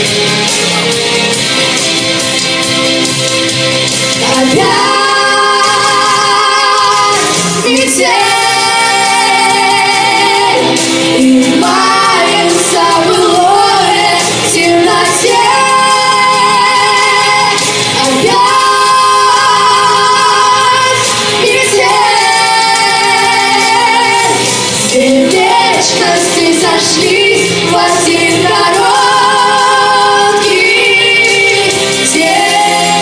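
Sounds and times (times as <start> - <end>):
pop backing track: 0.0 - 33.0
woman singing with vibrato: 4.2 - 33.0.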